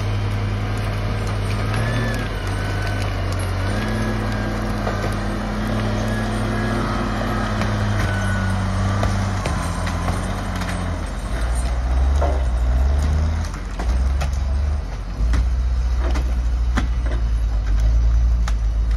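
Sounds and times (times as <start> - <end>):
diesel engine revving: 0.0 - 18.9.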